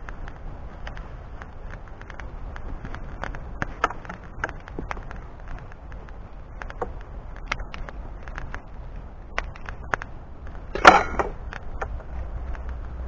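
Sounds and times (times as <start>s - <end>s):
burning wood pops and snaps: 0.0s - 12.9s
wind rumbling on microphone: 0.0s - 13.0s
wood fire crackling: 0.0s - 13.0s.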